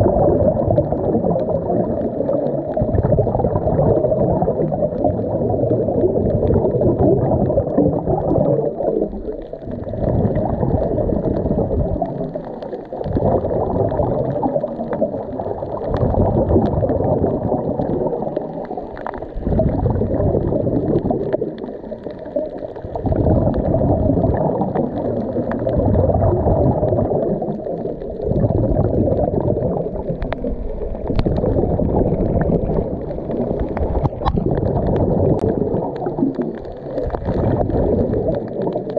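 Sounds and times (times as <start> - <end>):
muffled underwater regulator bubbles: 0.0 - 38.9.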